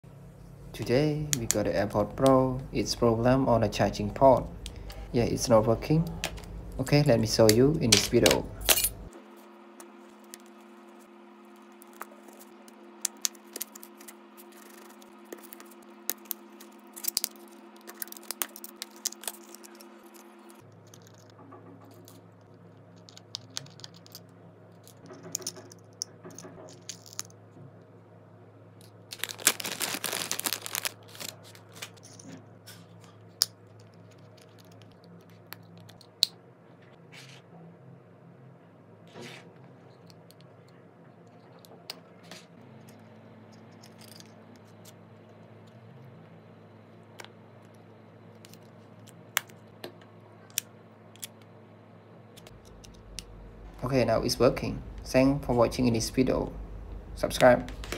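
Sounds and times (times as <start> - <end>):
low hum: 0.0 - 57.9.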